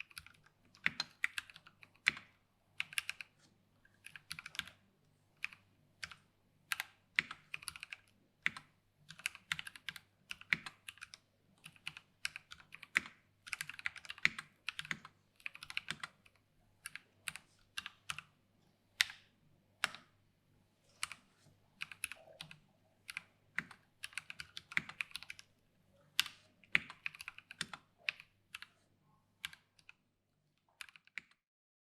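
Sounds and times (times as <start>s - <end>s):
typing on mechanical keyboard: 0.0s - 3.4s, 4.0s - 4.8s, 5.4s - 18.3s, 19.8s - 20.1s, 21.8s - 28.7s, 29.4s - 30.0s, 30.6s - 31.4s.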